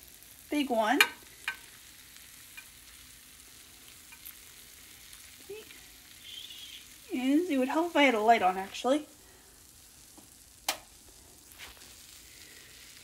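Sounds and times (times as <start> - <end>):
hot fat sizzling: 0.0 - 13.0.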